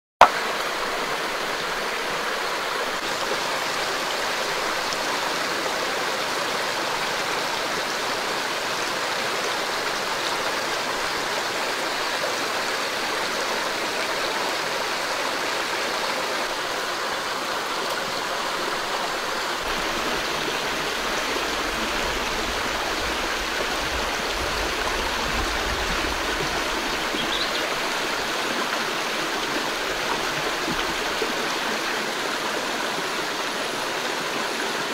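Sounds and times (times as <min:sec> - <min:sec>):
stream rushing over stones: 0:00.2 - 0:34.9.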